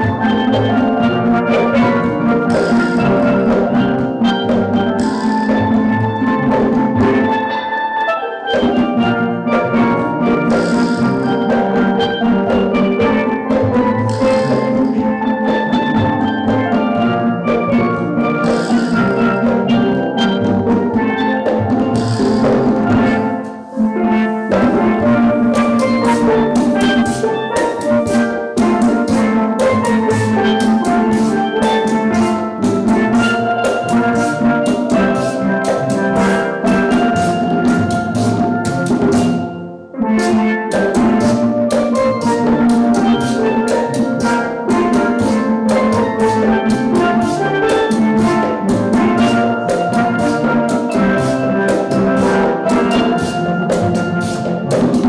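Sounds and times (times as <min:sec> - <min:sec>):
drums keeping a steady beat: 0:00.0 - 0:07.6, 0:08.6 - 0:55.0
steel pans playing a tune: 0:00.0 - 0:55.0.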